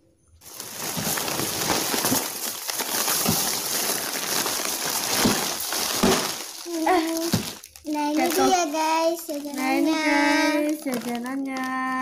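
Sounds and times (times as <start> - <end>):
plastic bag and foil crinkling: 0.4 - 12.0.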